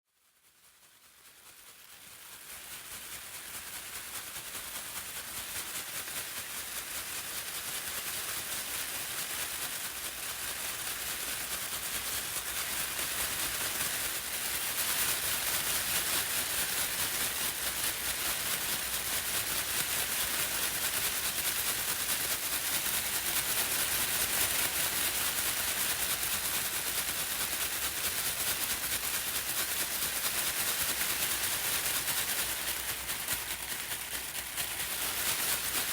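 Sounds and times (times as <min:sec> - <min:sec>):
pom poms shaken: 0:00.2 - 0:35.9.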